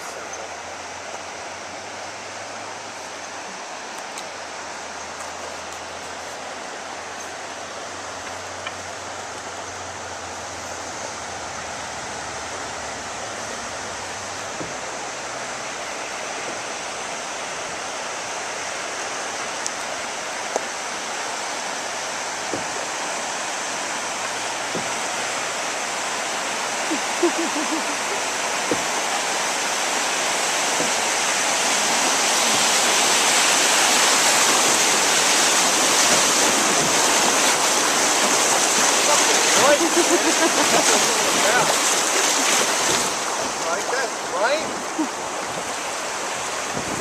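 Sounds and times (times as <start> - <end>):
river rapids rushing: 0.0 - 47.0.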